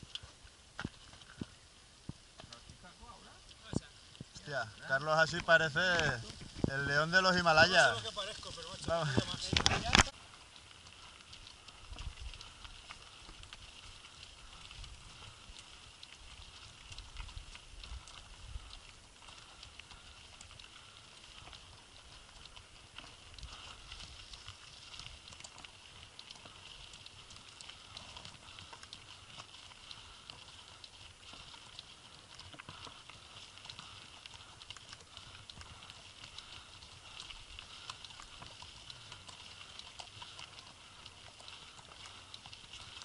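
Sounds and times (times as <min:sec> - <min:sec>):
hooves clip-clopping on gravel: 0:00.0 - 0:43.0.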